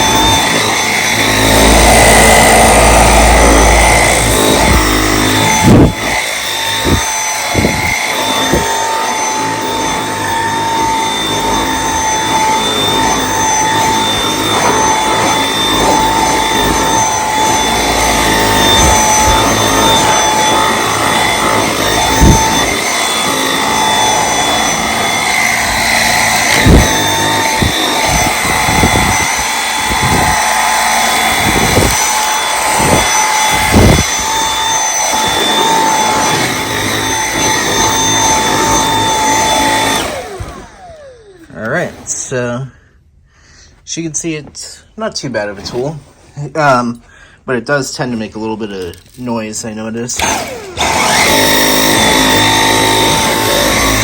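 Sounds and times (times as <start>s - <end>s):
handheld vacuum whining: 0.0s - 42.9s, 48.0s - 54.0s.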